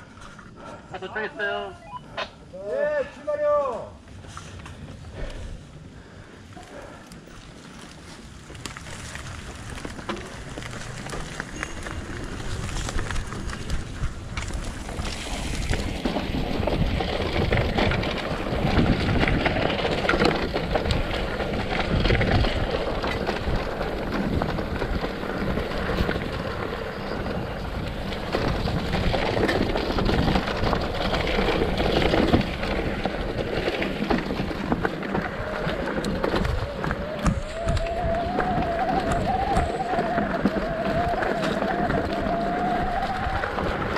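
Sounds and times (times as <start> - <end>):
bike rattling over rough ground: 2.5 - 43.9
wind buffeting microphone: 8.4 - 43.9.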